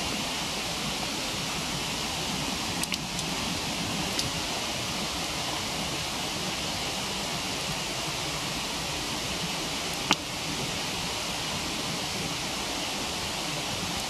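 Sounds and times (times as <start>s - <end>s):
waterfall rushing: 0.0s - 14.0s
wood fire crackle: 0.0s - 14.0s.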